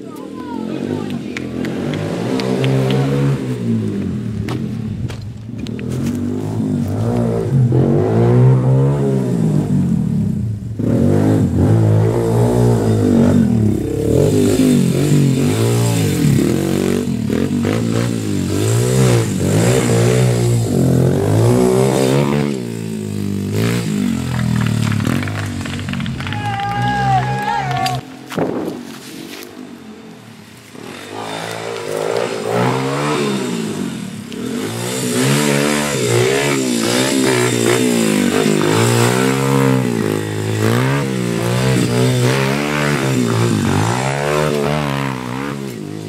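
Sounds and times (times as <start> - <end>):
motorbike engine revving: 0.5 - 29.0, 30.6 - 46.0.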